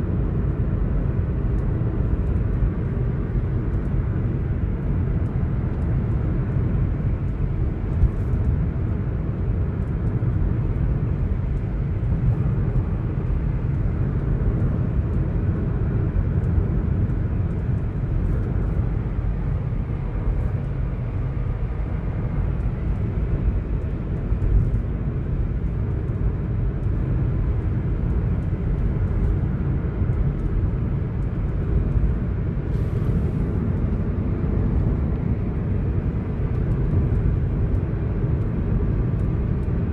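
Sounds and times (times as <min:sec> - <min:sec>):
car road and engine drone: 0:00.0 - 0:39.9.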